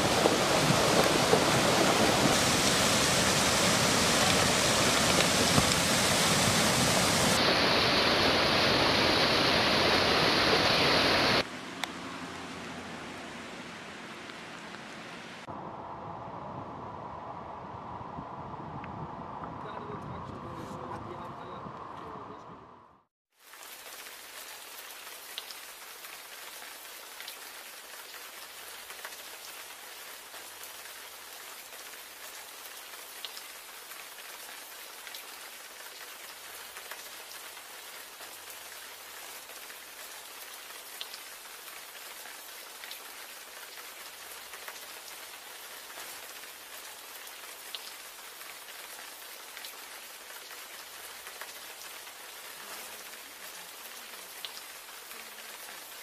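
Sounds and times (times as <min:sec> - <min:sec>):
rain on a hard surface: 0:00.0 - 0:15.7, 0:23.3 - 0:56.0.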